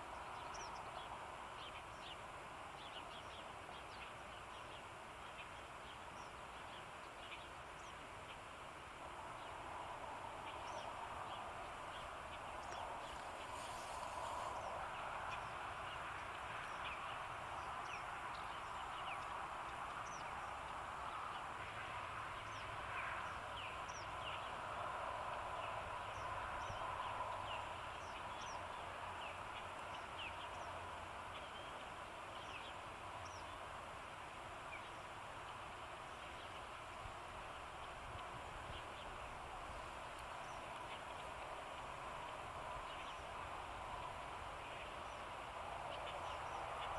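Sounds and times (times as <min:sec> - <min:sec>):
songbirds chirping: 0:00.0 - 0:46.9
steady background hiss: 0:00.0 - 0:46.9.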